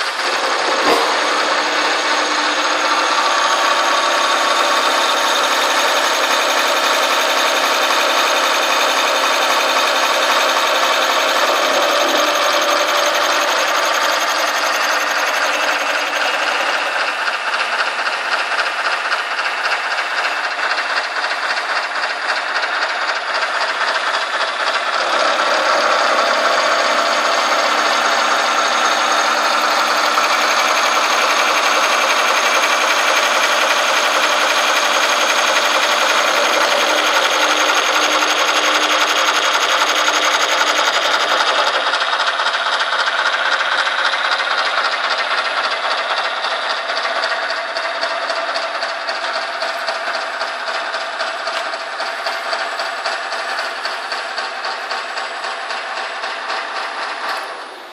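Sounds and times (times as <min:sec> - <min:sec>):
cnc machine milling metal: 0:00.0 - 0:57.9.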